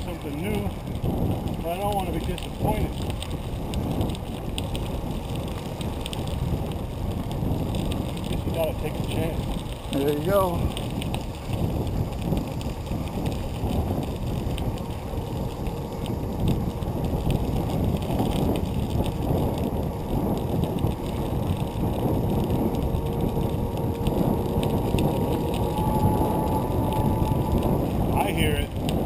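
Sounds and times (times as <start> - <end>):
bicycle tyres on crushed stone: 0.0 - 29.0
grit ticking under wheels: 0.0 - 29.0
wind on microphone: 0.0 - 29.0.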